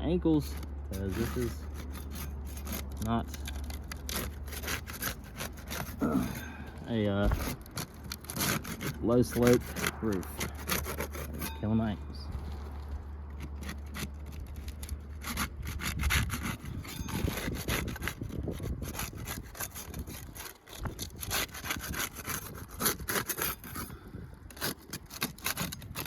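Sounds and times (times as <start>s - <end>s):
flat bar scraping under shingles: 0.0s - 26.0s.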